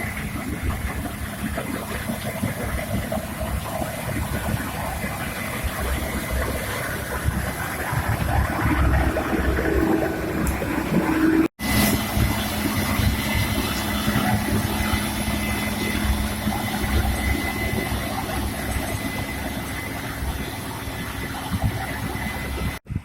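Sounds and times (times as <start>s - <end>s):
farm machine engine running: 0.0s - 23.0s.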